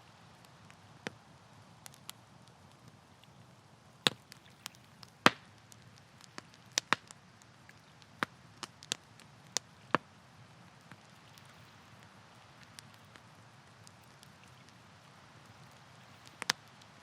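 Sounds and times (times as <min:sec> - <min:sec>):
campfire wood crackling: 0:00.0 - 0:17.0
faint low hiss: 0:00.0 - 0:17.0
sharp pops from fire: 0:00.3 - 0:17.0.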